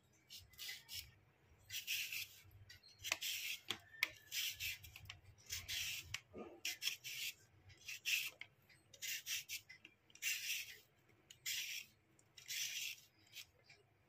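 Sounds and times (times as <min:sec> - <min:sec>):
peeler scraping radish skin: 0:00.3 - 0:02.4, 0:03.0 - 0:08.4, 0:09.0 - 0:09.6, 0:10.2 - 0:13.6.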